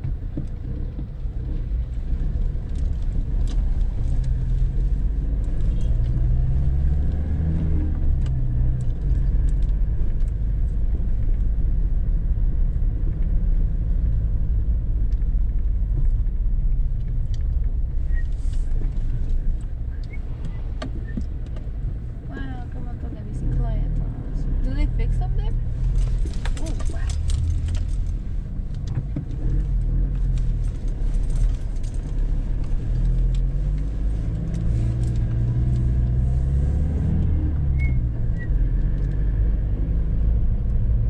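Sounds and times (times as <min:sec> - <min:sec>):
car engine: 0:00.0 - 0:41.0
road rumble: 0:00.0 - 0:41.0.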